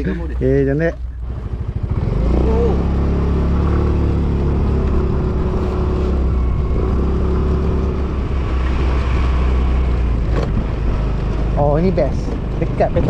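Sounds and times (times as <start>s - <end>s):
scooter engine droning: 0.0s - 13.0s.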